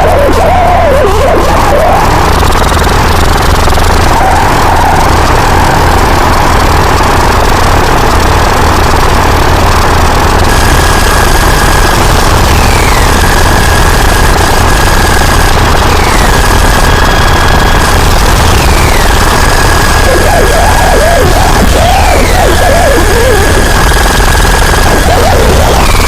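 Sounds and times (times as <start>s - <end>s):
mechanical rumble and clatter: 0.0s - 26.0s.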